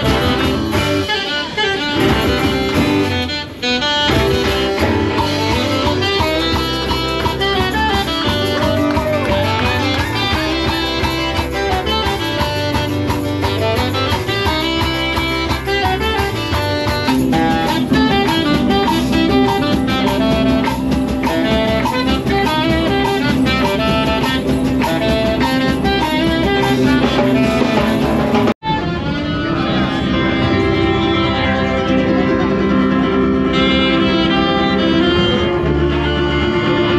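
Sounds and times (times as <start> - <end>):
live band with guitar: 0.0 - 36.9.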